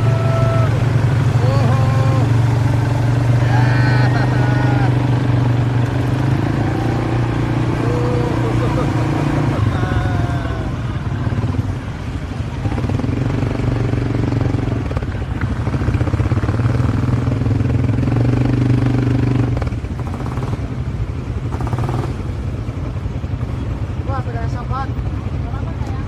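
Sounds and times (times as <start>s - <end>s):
small atv engine running: 0.0s - 24.0s.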